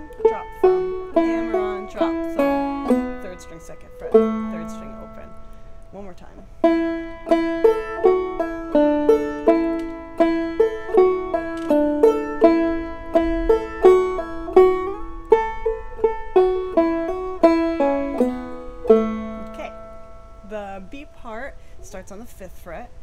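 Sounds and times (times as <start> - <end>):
banjo playing old-time tune: 0.0 - 20.8.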